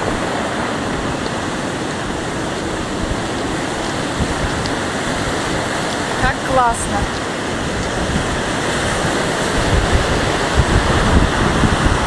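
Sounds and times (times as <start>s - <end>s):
storm surf breaking: 0.0s - 12.0s.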